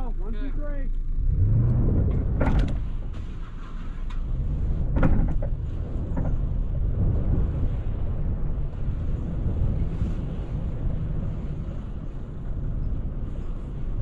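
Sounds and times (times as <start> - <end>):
vehicle engine revving: 0.9 - 14.0.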